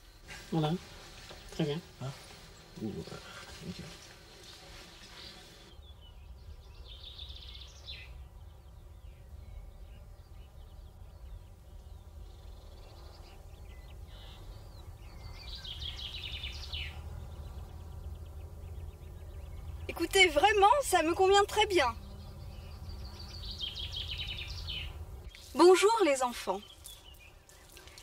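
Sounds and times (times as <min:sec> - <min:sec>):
low outdoor rumble: 0:00.0 - 0:27.1
birds chirping: 0:00.0 - 0:28.0.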